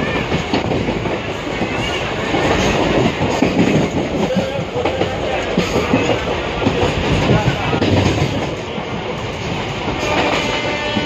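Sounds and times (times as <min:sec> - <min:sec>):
train carriage rattling: 0:00.0 - 0:11.0
train wheels rumbling on track: 0:00.0 - 0:11.0.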